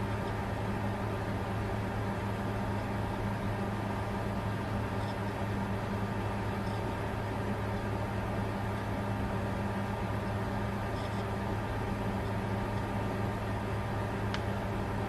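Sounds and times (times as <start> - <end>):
constant low hum: 0.0 - 15.0
cooling fans rushing: 0.0 - 15.0.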